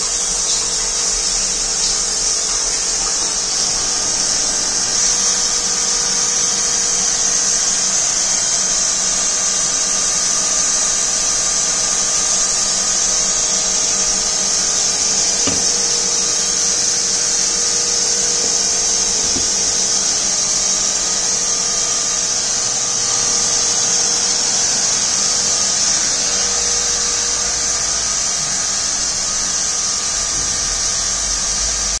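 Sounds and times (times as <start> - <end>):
faint pump motor hum: 0.0 - 32.0
steady machine hiss: 0.0 - 32.0
water flowing: 0.0 - 32.0.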